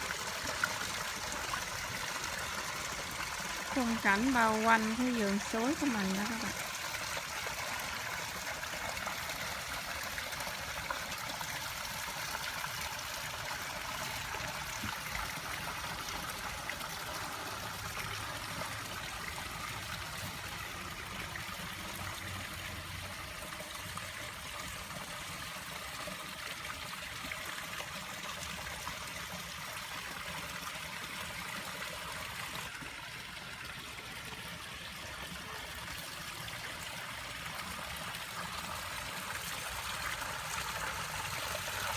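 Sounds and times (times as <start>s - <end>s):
water trickling over rocks: 0.0s - 41.9s.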